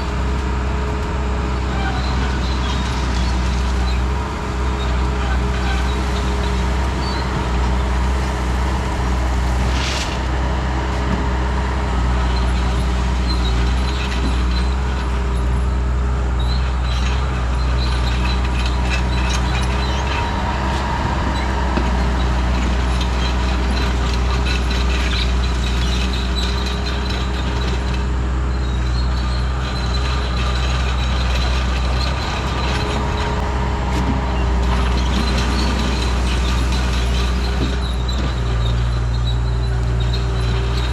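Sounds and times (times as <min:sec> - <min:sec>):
skid steer engine running: 0:00.0 - 0:40.9
machine clanks and rattles: 0:01.6 - 0:40.9.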